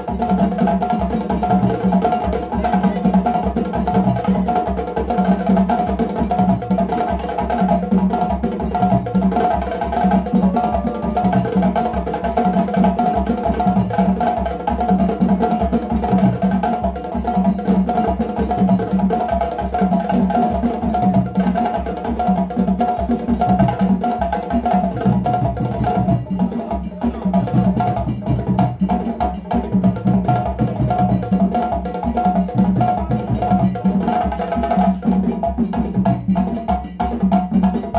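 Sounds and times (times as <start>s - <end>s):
djembe drums playing: 0.0s - 37.9s.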